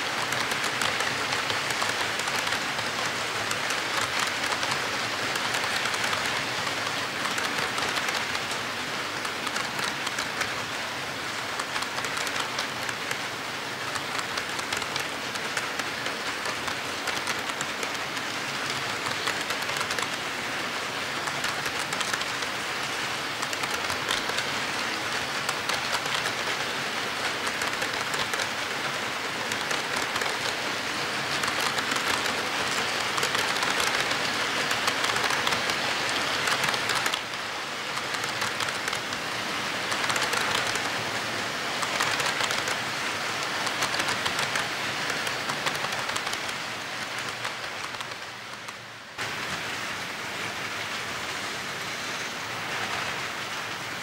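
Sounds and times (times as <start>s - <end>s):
model train wheels clattering on rail: 0.0s - 54.0s.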